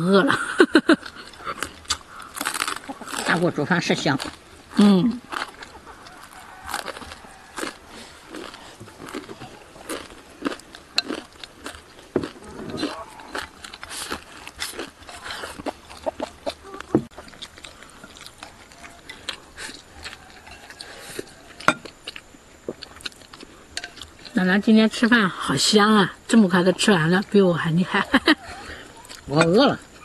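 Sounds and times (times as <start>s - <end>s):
chewing rice: 0.8s - 3.4s, 4.0s - 24.4s, 28.1s - 30.0s.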